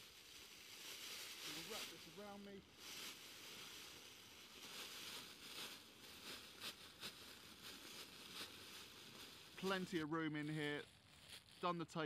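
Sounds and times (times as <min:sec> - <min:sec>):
survival blanket rustling: 0:00.0 - 0:11.6
tape crackling: 0:00.0 - 0:12.0.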